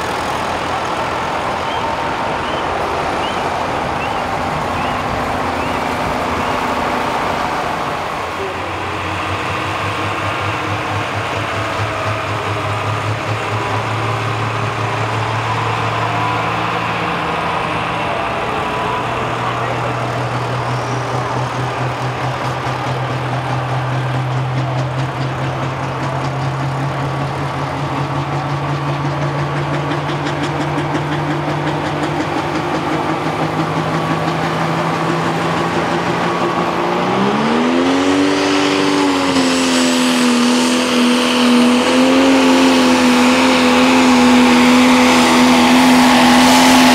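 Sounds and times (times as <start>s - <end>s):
diesel engine idling and revving: 0.0s - 46.9s.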